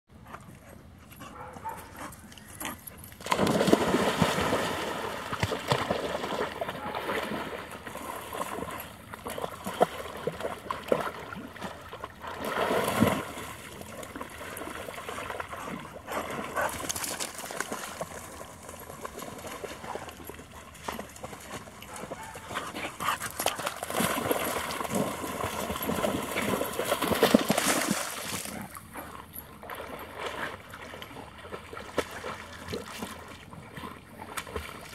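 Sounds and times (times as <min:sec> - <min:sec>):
water sloshing and splashing: 0:02.4 - 0:34.9.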